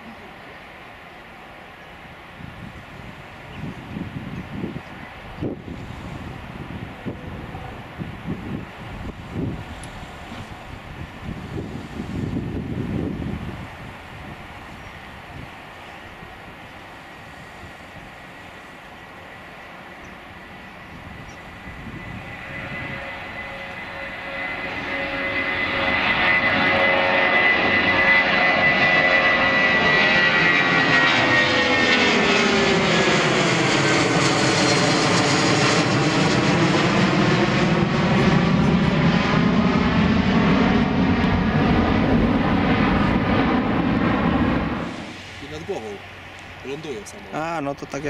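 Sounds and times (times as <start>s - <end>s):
jet plane passing overhead: 0.0s - 48.0s.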